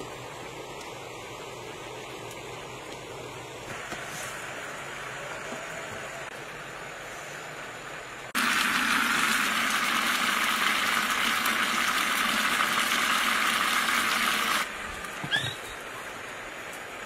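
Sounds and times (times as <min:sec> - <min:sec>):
broth boiling in a pot: 0:00.0 - 0:15.1.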